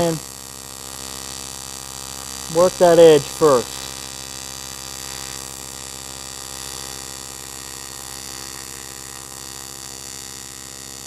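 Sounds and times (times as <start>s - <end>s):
welding arc buzzing: 0.0s - 11.0s.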